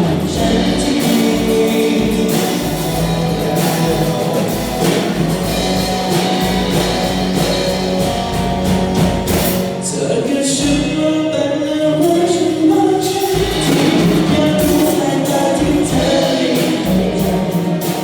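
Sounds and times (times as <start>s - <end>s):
drum kit beat: 0.0s - 18.0s
electric guitar: 0.0s - 18.0s.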